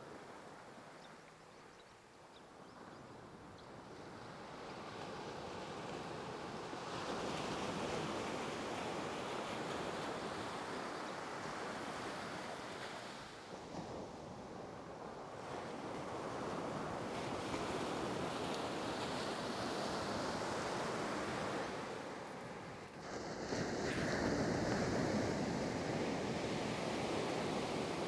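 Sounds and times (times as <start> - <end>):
ocean surf washing onto beach: 4.0 - 28.0.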